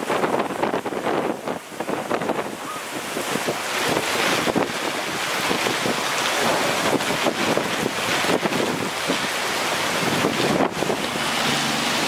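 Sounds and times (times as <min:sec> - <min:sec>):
gusts buffeting microphone: 0:00.0 - 0:12.0
torrential rain: 0:00.0 - 0:12.0
violent wind: 0:00.0 - 0:12.0.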